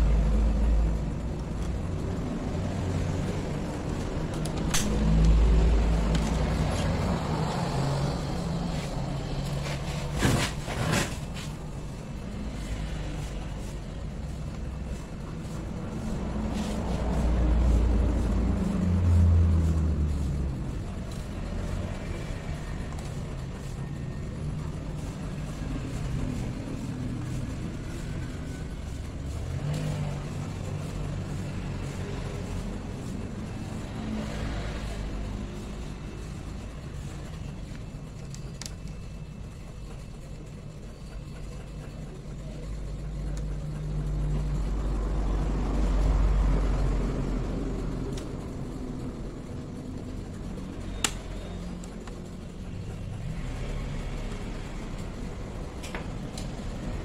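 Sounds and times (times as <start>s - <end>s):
road traffic engine rumble: 0.0s - 57.0s.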